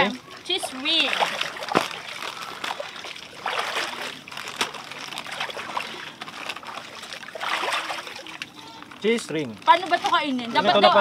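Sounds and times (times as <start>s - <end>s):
river water trickling and splashing: 0.0s - 11.0s.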